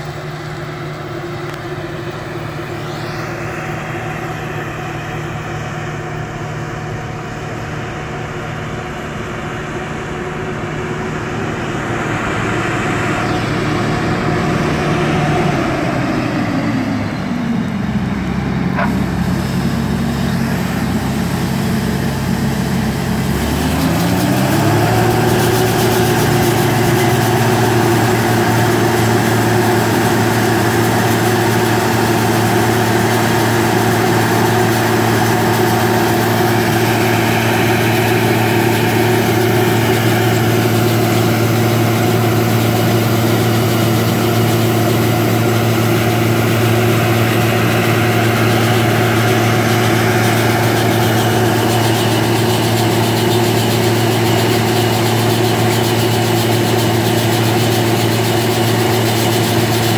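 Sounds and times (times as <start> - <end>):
diesel machinery engine running: 0.0 - 59.9.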